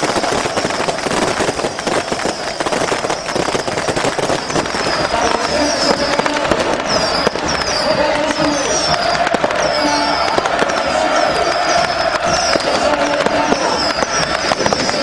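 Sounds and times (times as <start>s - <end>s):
firecrackers and fireworks crackling: 0.0s - 15.0s
short falling whistles: 0.1s - 10.6s, 11.2s - 15.0s.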